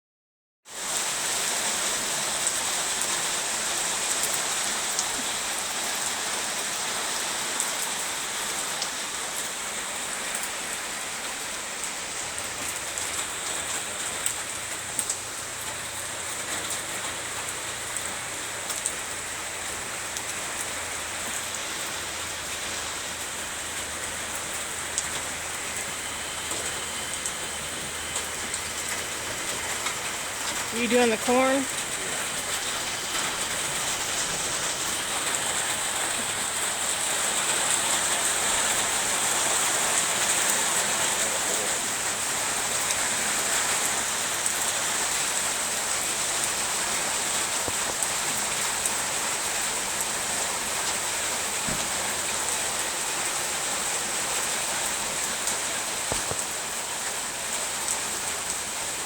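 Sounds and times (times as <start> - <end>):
rain on a tin roof: 0.6 - 59.0.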